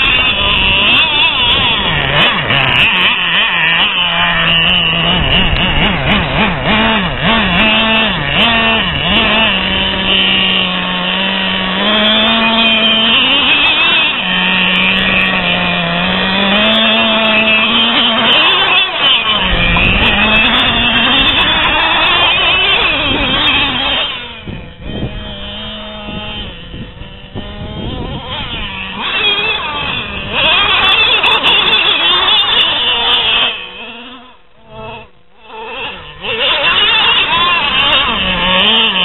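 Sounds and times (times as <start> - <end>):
small nitro engine revving: 0.0 - 39.0.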